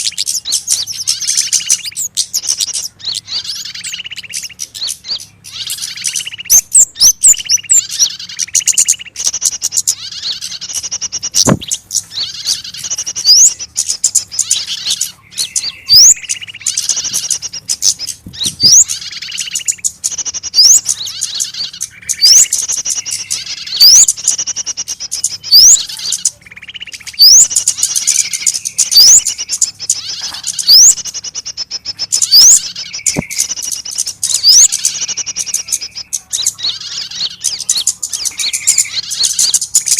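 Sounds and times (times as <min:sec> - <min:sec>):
small birds distress calls: 0:00.0 - 0:39.9
bird rising whistles: 0:03.1 - 0:24.6, 0:25.2 - 0:39.9.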